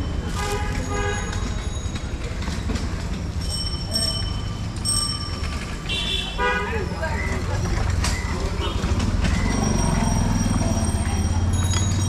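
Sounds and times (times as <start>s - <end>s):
low rumble of passing vehicles: 0.0s - 12.0s.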